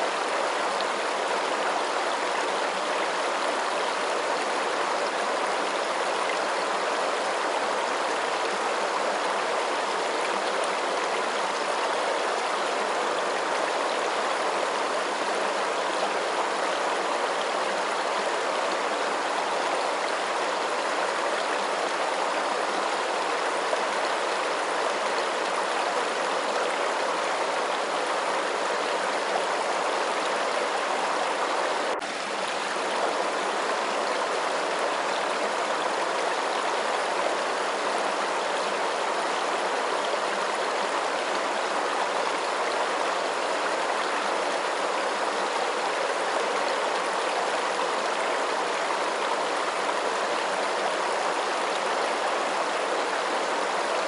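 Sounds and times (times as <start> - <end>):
running water rushing: 0.0 - 54.0.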